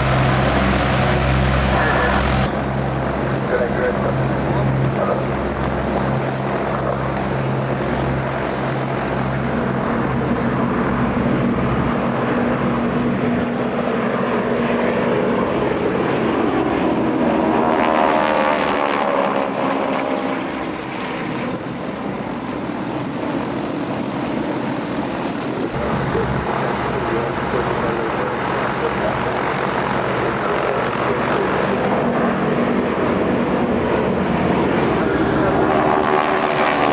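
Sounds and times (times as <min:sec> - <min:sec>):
propeller aircraft flying past: 0:00.0 - 0:36.9.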